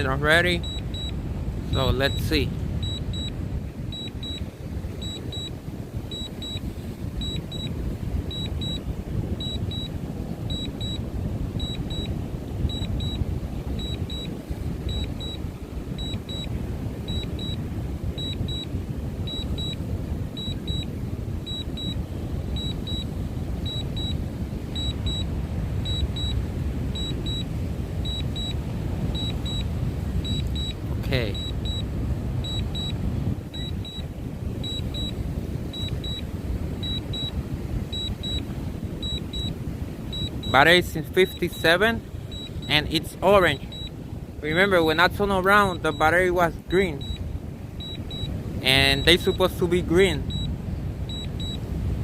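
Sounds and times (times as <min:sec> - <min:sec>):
high double beep: 0:00.0 - 0:04.4, 0:05.0 - 0:07.7, 0:08.3 - 0:08.8, 0:09.4 - 0:11.0, 0:11.6 - 0:15.4, 0:16.0 - 0:17.6, 0:18.2 - 0:19.8, 0:20.4 - 0:22.0, 0:22.6 - 0:47.2, 0:47.8 - 0:51.6
wind buffeting microphone: 0:00.0 - 0:52.0.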